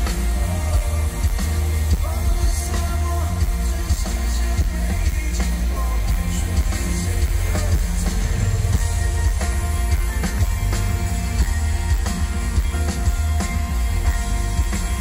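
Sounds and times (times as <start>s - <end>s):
booming bass: 0.0s - 15.0s
live pop band with piano: 0.0s - 15.0s.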